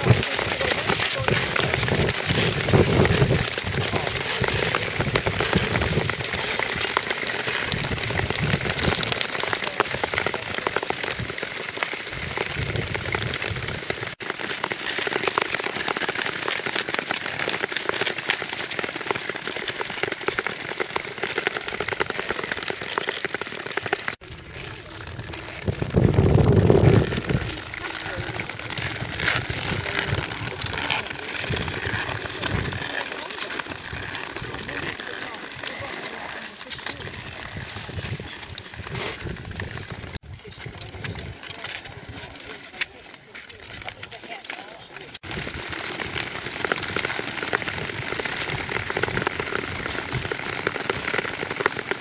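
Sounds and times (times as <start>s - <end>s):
skates scraping over ice: 0.0s - 52.0s.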